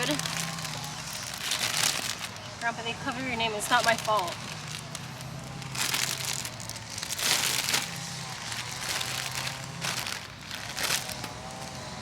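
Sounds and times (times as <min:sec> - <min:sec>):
wrapping crinkling and rustling: 0:00.0 - 0:12.0.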